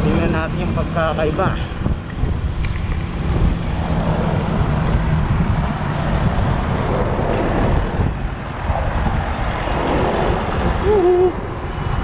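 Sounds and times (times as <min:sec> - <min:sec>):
low engine hum: 0:00.0 - 0:12.0
motor traffic: 0:00.0 - 0:12.0
wind buffeting microphone: 0:00.0 - 0:12.0.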